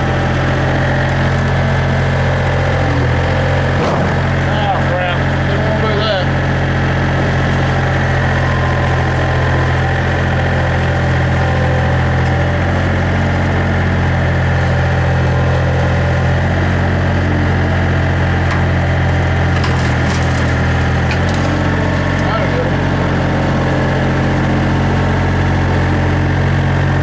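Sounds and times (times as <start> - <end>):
skid steer diesel engine: 0.0 - 27.0.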